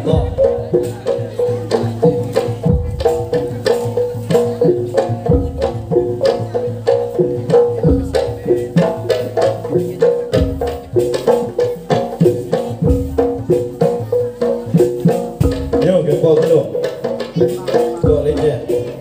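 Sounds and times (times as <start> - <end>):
deep low drum stroke: 0.0 - 19.0
fast pitched percussion notes: 0.0 - 19.0.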